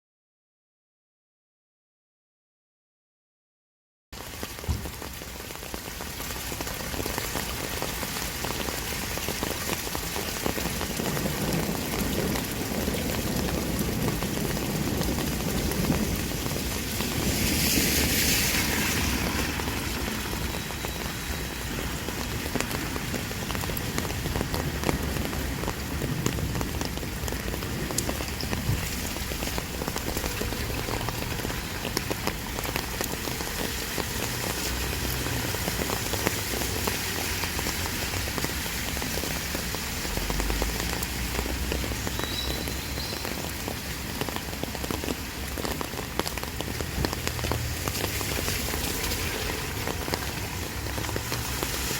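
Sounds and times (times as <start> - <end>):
raindrops ticking: 4.2 - 51.9
heavy rain hiss: 6.4 - 51.9.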